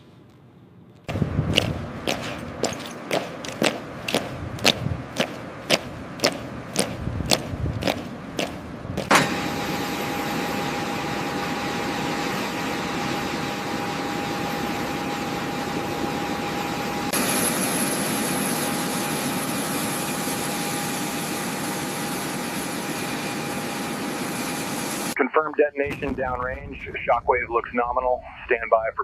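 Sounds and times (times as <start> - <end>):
thin whine: 0.0 - 29.0
mechanical drone: 1.0 - 25.2.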